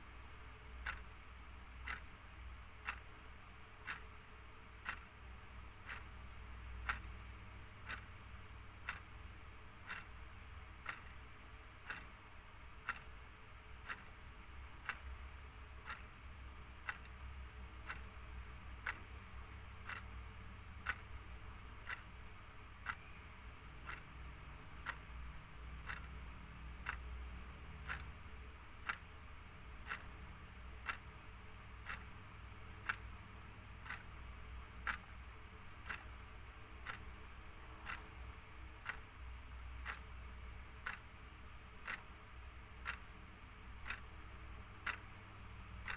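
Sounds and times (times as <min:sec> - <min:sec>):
faint low hum: 0:00.0 - 0:45.9
clock ticking: 0:00.3 - 0:45.9.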